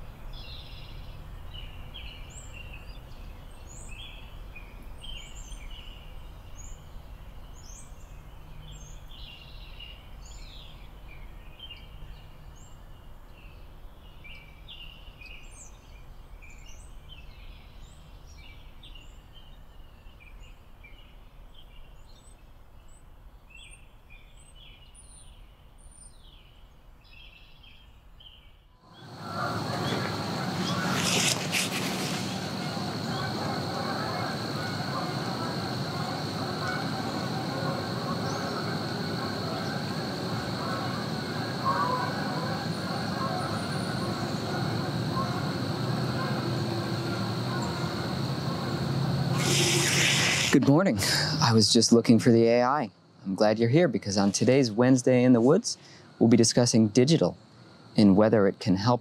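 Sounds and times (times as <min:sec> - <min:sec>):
small birds chirping and trilling: 0:00.3 - 0:59.0.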